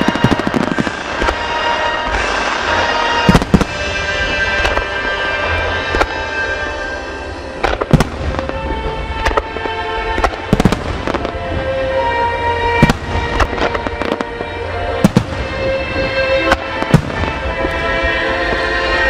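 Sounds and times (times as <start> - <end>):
firework shells booming: 0.0 - 19.0
music playing: 0.0 - 19.0.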